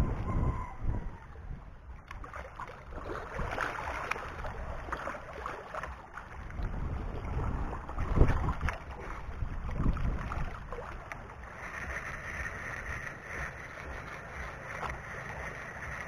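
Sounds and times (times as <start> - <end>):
wind buffeting microphone: 0.0 - 5.6, 6.2 - 16.0
small waves lapping on rocks: 1.5 - 16.0.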